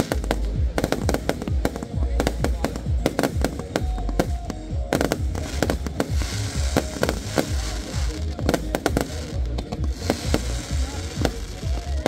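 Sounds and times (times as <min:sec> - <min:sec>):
fireworks bangs and booms: 0:00.0 - 0:12.0
fireworks crackling: 0:00.0 - 0:12.0.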